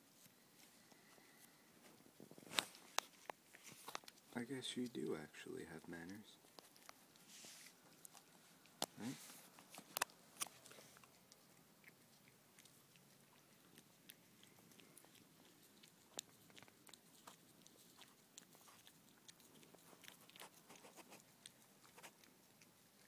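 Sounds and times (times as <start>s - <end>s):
animals licking and smacking: 0.2s - 23.0s.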